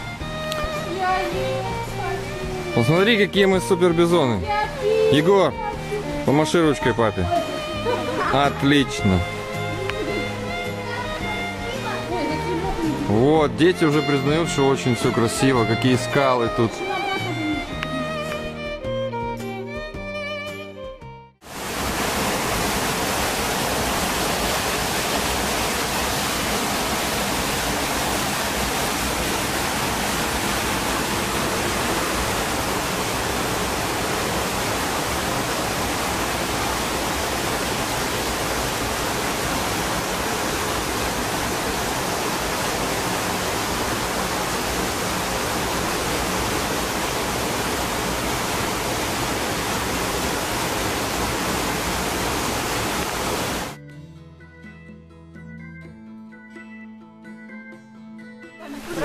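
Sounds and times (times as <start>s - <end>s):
small waterfall rushing: 0.0s - 19.3s, 21.4s - 53.8s, 58.6s - 59.0s.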